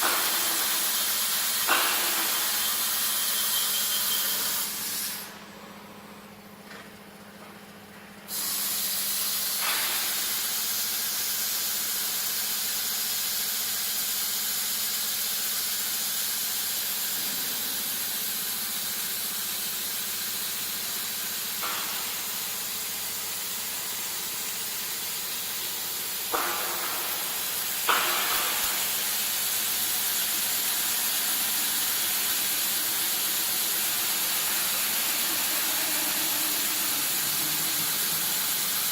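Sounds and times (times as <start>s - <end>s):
industrial machine hissing: 0.0s - 5.6s, 8.3s - 38.9s.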